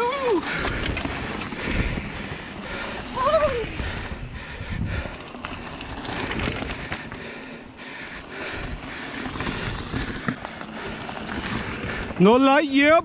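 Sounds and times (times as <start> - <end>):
bikes clicking and rattling: 0.0 - 13.0.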